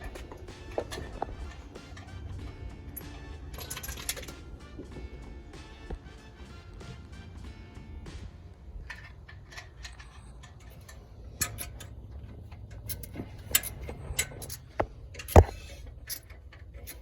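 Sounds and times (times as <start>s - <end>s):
hand tools clicking and clinking: 0.0s - 17.0s
low steady hum: 0.0s - 17.0s.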